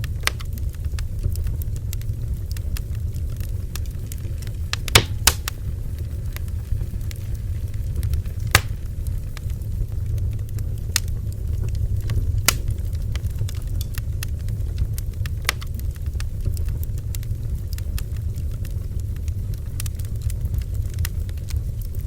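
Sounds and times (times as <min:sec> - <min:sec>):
bonfire crackling: 0:00.0 - 0:22.0
burning wood popping: 0:00.0 - 0:22.0
steady low rumble: 0:00.0 - 0:22.0.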